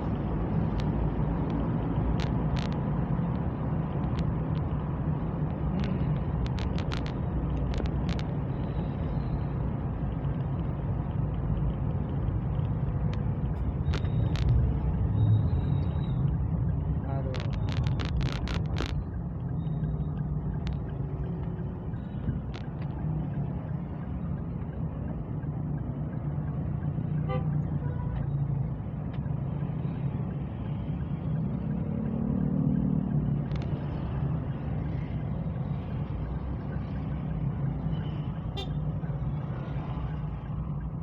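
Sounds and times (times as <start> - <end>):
vehicle engine and road noise: 0.0 - 41.0.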